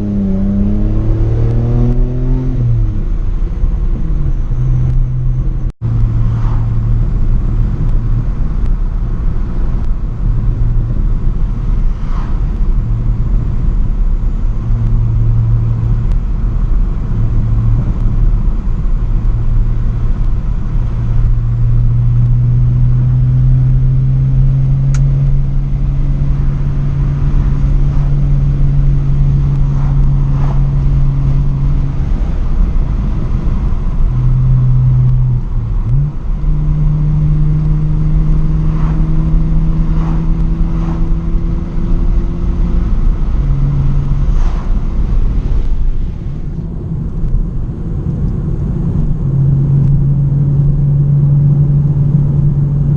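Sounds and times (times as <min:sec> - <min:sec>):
loud low exhaust drone: 0:00.0 - 0:52.9.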